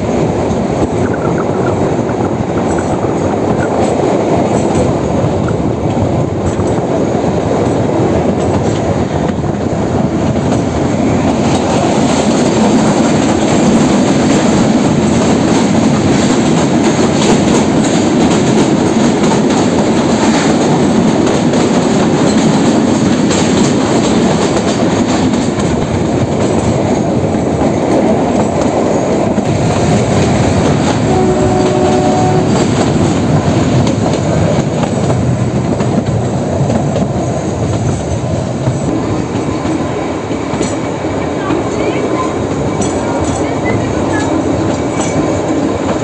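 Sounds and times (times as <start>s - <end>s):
train wheels clattering on rails: 0.0s - 46.0s.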